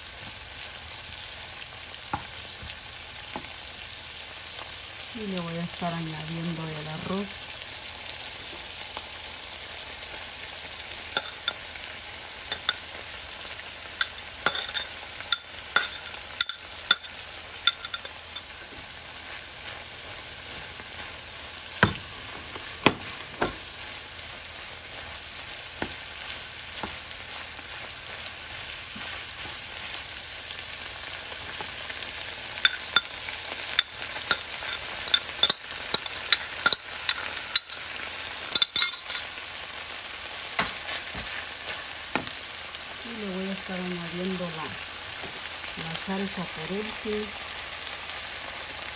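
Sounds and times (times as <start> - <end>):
food sizzling in frying pan: 0.0 - 48.9.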